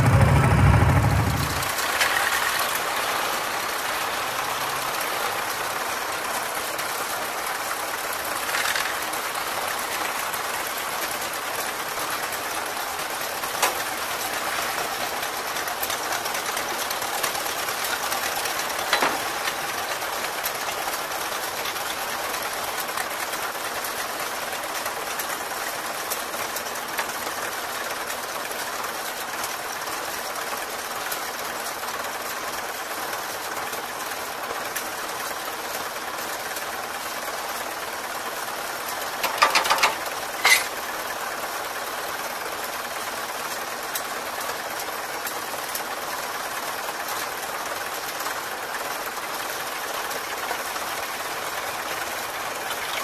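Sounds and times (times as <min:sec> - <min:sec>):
tractor engine idling: 0:00.0 - 0:53.0.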